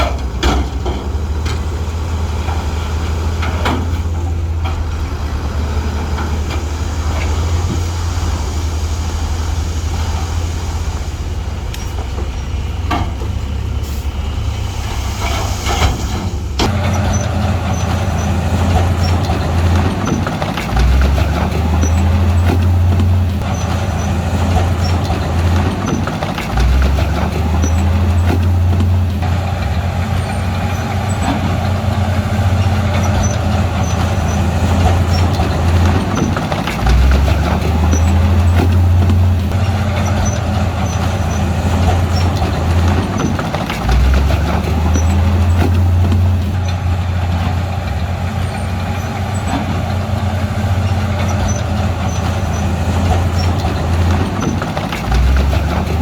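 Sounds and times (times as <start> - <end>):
bulldozer diesel engine under load: 0.0 - 56.0
clatter of tracks and rock: 0.0 - 56.0.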